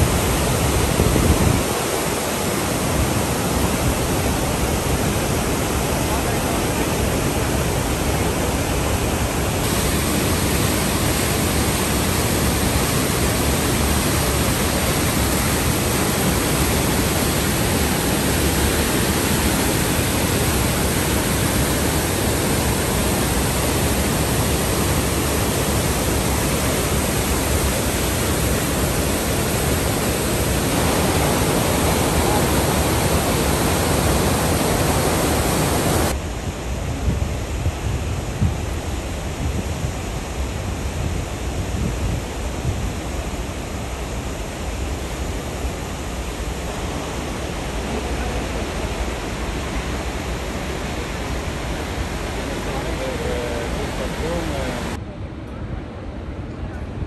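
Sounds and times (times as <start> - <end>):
waterfall rushing: 0.0 - 36.3, 42.2 - 55.0.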